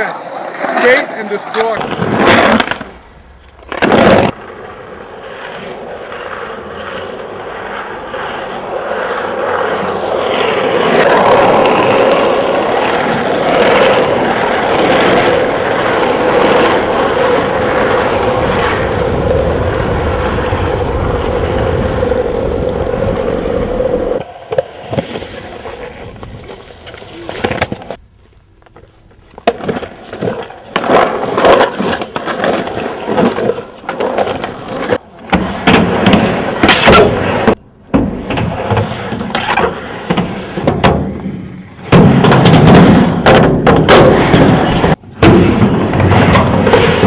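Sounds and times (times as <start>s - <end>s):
skateboard wheels rolling on pavement: 0.0s - 47.0s.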